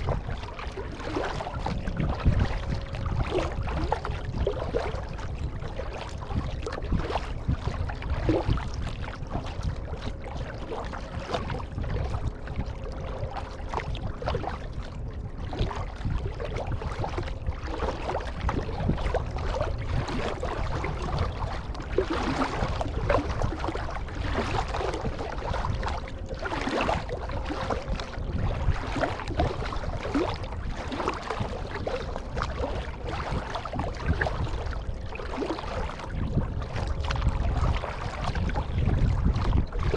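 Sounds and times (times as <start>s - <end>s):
paddle strokes splashing water: 0.0s - 39.9s
steady low rumble: 0.0s - 39.9s.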